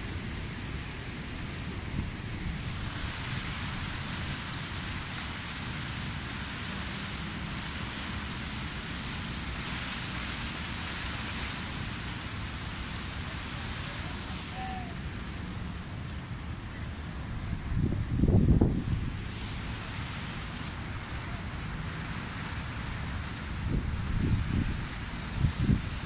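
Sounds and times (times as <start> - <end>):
wind gusting over microphone: 0.0 - 26.0.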